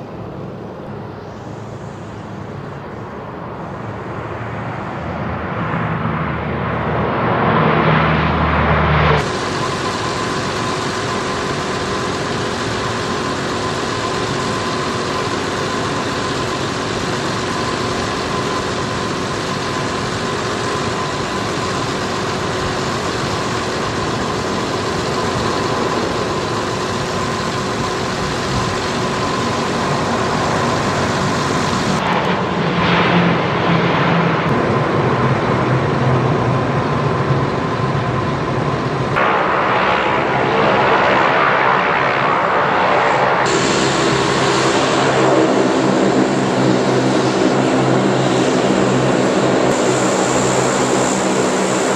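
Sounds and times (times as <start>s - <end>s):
deep engine rumble: 0.0s - 51.9s
turboprop engines droning: 0.0s - 51.9s.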